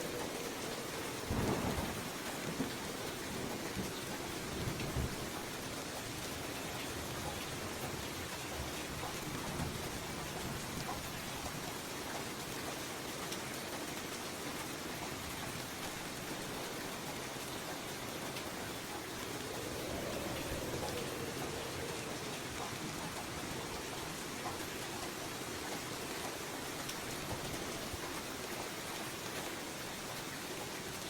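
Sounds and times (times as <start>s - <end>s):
raindrop ticks: 0.0s - 14.6s, 15.3s - 31.0s
light rain hissing: 0.0s - 31.0s.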